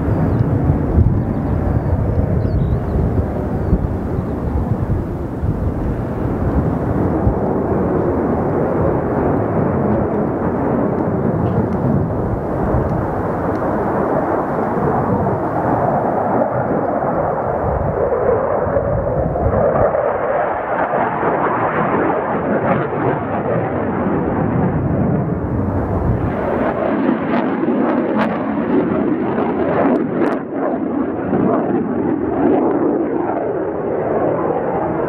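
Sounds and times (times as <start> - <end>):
jet engine rumble: 0.0 - 35.0.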